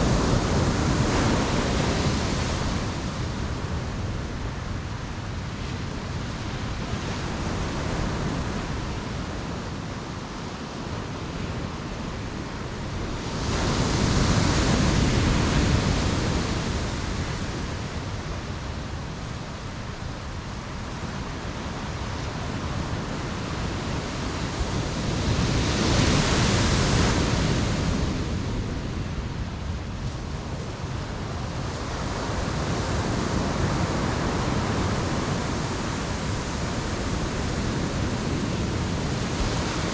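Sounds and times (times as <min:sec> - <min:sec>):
ocean surf roaring: 0:00.0 - 0:39.9.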